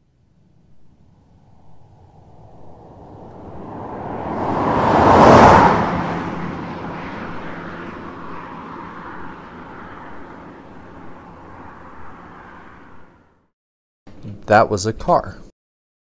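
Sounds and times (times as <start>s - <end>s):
car driving past: 0.5s - 13.5s.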